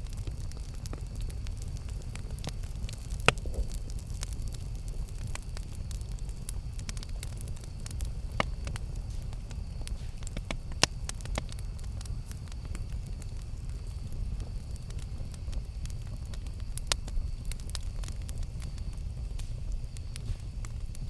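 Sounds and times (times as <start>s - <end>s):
burning wood crackling and popping: 0.0s - 21.0s
campfire flames rumbling: 0.0s - 21.0s.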